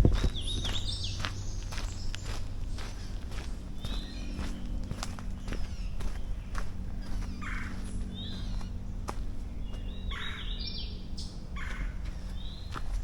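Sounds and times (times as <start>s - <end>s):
steady low rumble: 0.0s - 13.0s
harsh raspy bird calls: 0.3s - 12.8s.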